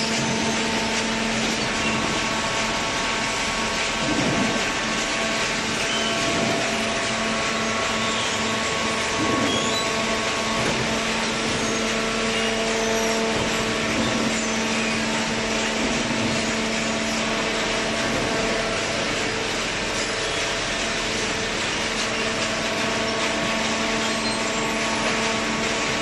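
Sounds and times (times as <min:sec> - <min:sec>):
baler machine humming: 0:00.0 - 0:26.0.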